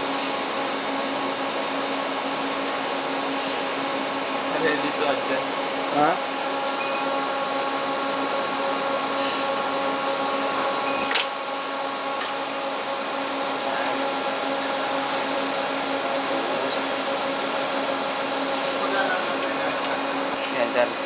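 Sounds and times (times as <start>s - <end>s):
machine humming with hiss: 0.0s - 21.0s.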